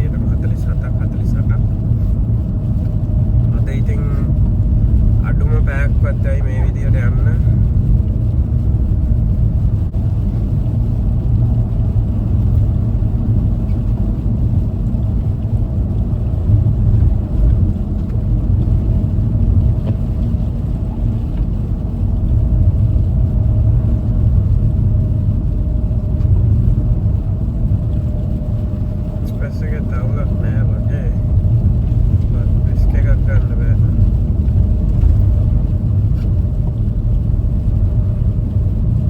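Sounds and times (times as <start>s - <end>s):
car rumbling on snowy road: 0.0s - 39.0s.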